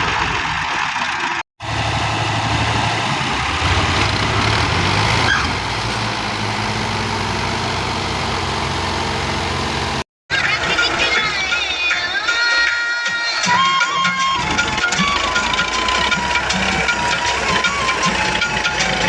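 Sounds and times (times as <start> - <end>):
tractor diesel engine running: 0.0 - 11.8, 13.9 - 19.0.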